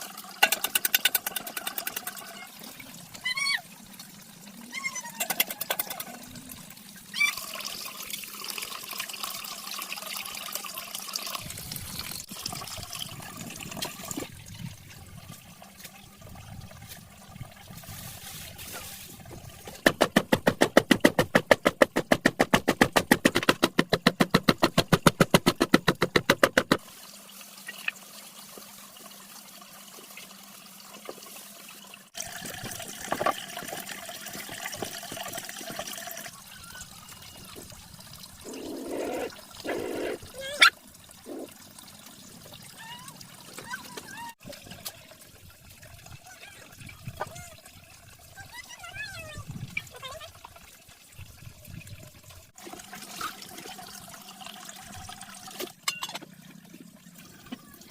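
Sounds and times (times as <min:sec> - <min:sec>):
water running and splashing: 0:00.0 - 0:57.9.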